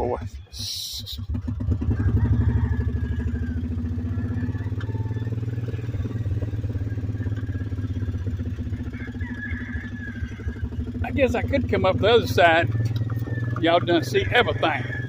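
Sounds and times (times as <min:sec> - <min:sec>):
small engine pulsing rumble: 0:00.0 - 0:15.0.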